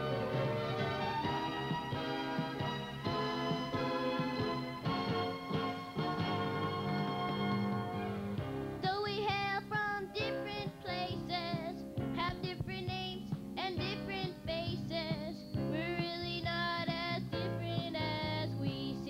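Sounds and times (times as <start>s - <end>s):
instrumental accompaniment: 0.0s - 19.0s.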